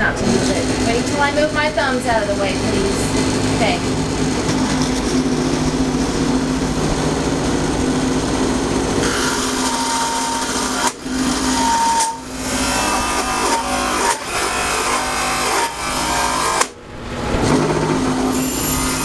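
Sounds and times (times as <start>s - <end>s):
electric power tool cutting wood: 0.0s - 19.0s.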